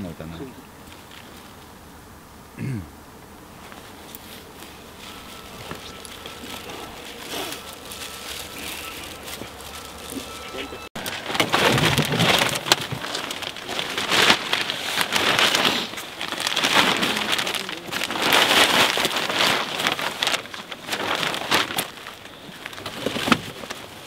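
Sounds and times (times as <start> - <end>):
plastic bag rustling: 3.5 - 24.0.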